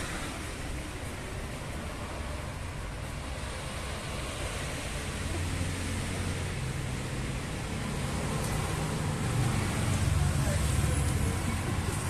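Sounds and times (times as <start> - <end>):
hiss of passing vehicles: 0.0 - 12.0
low engine rumble: 0.0 - 12.0.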